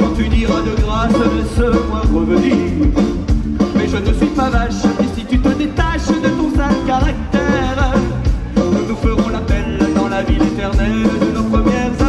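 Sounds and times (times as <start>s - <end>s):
accordion: 0.0s - 12.0s
bass guitar: 0.0s - 12.0s
drum kit beat: 0.0s - 12.0s.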